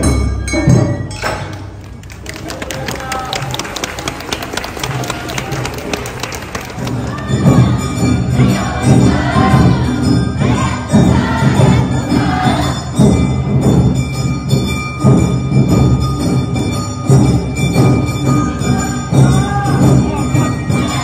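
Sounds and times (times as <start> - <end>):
drums beating: 0.0 - 21.0.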